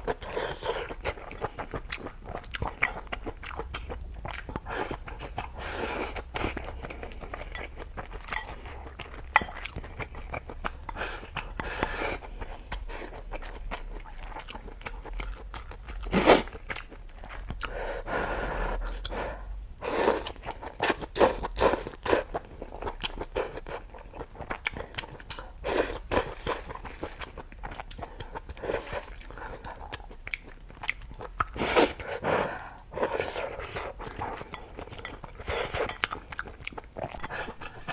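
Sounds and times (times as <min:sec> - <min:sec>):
chewing and crunching food: 0:00.0 - 0:18.0, 0:20.1 - 0:37.9.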